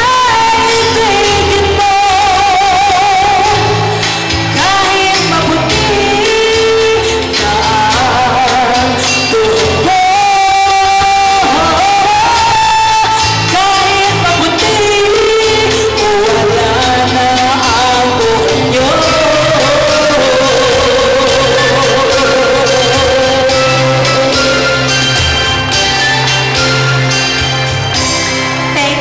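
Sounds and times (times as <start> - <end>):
woman singing into microphone: 0.0 - 25.7, 28.4 - 29.0
music with steady beat: 0.0 - 29.0.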